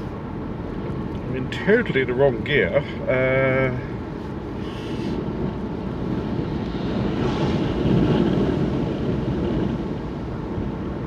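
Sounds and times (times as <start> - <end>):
car engine and tyre noise inside cabin: 0.0 - 11.0.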